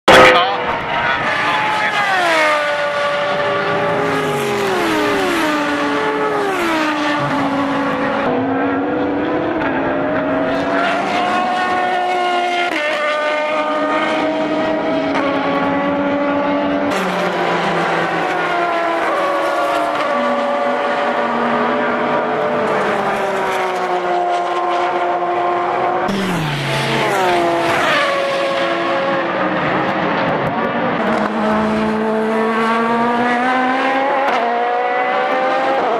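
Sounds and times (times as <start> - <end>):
race car engine shifting gears: 0.6 - 35.9.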